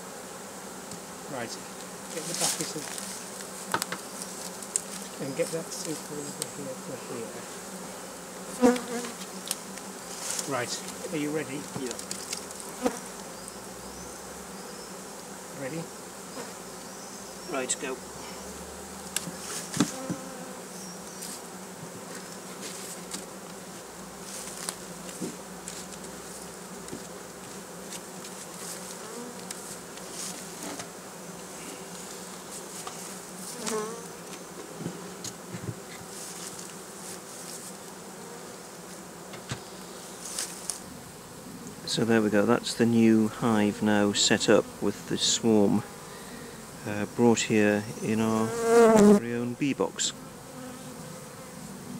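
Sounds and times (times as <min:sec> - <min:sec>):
bees buzzing: 0:00.0 - 0:51.9.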